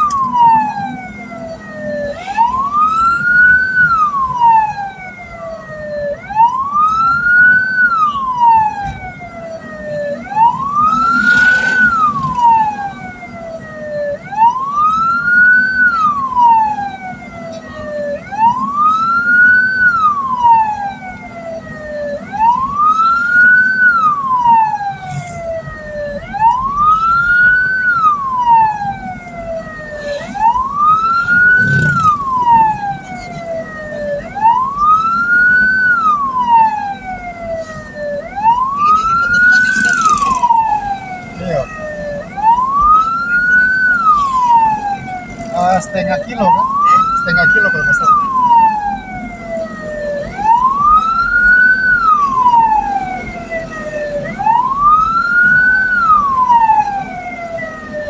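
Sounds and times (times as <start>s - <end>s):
wailing siren: 0.0s - 58.0s.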